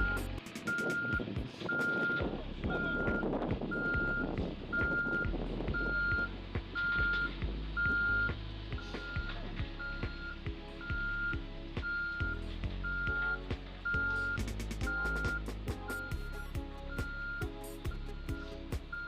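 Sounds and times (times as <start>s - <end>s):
diesel engine rumbling: 0.0s - 19.0s
reversing alarm beeping: 0.0s - 19.0s.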